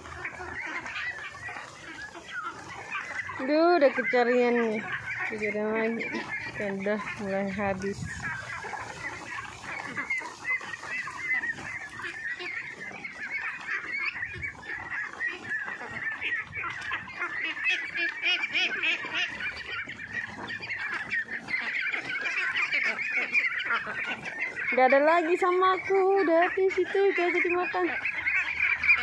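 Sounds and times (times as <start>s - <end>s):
ducks calling: 0.0s - 29.0s.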